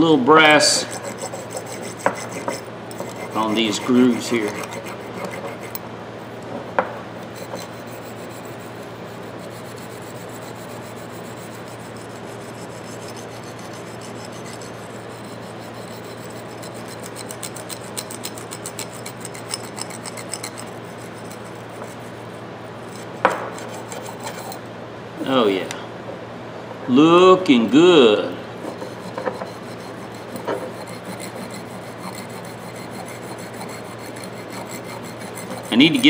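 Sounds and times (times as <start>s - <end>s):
wire brush scrubbing metal: 0.4s - 6.4s, 7.2s - 24.6s, 28.6s - 36.0s.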